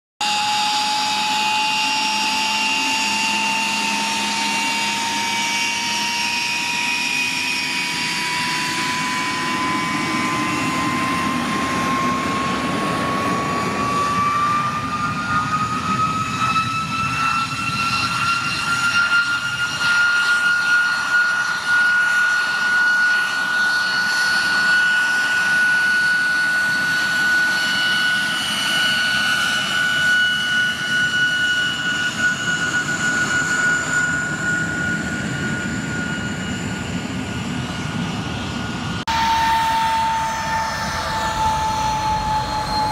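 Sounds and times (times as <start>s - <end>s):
jet engine whining: 0.2s - 42.9s.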